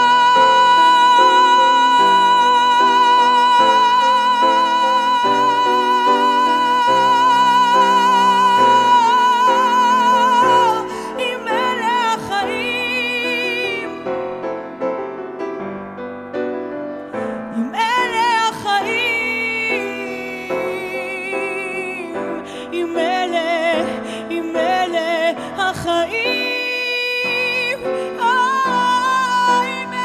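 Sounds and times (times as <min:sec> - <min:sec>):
woman singing a ballad: 0:00.0 - 0:14.6, 0:17.2 - 0:30.0
piano chords: 0:00.0 - 0:30.0.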